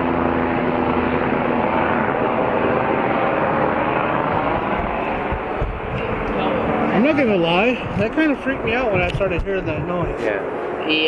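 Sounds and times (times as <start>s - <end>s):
airplane engine drone: 0.0s - 11.0s
low hum: 0.0s - 11.0s.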